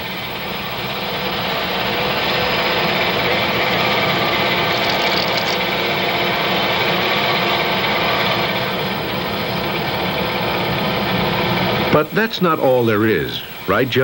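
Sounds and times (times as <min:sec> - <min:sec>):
metal lathe drilling: 0:00.0 - 0:12.0.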